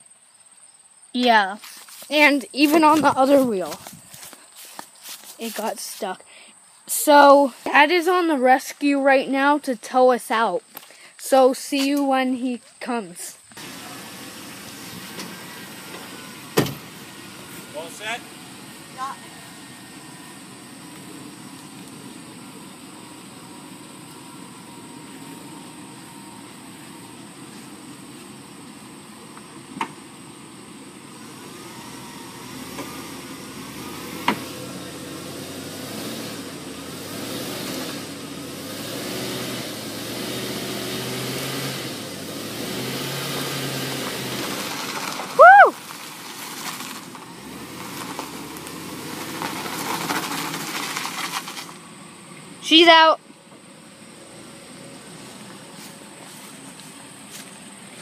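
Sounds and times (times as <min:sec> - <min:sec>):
vehicle engines under load: 0:00.0 - 0:58.0.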